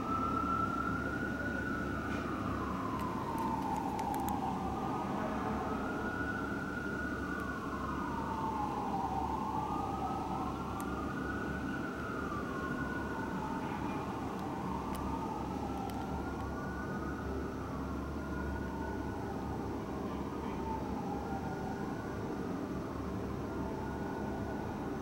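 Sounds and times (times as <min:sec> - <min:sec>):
fire engine siren wailing: 0:00.0 - 0:25.0.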